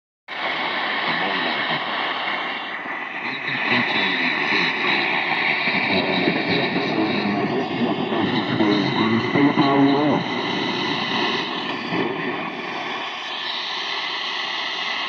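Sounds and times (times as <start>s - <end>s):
radio hissing drone: 0.3s - 15.0s.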